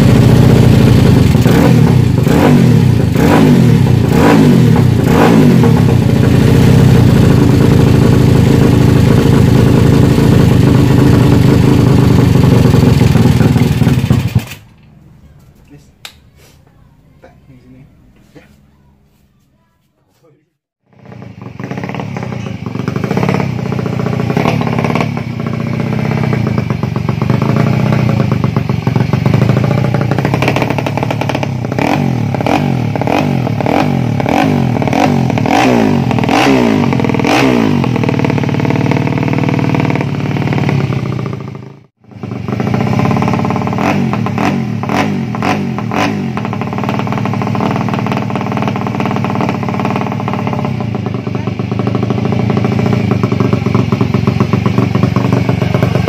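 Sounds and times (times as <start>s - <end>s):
motorcycle engine revving: 0.0s - 15.4s, 20.8s - 56.0s.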